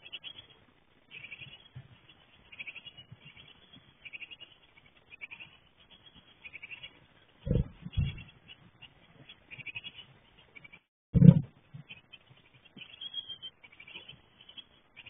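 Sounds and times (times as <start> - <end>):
nestlings begging calls: 0.0 - 15.0.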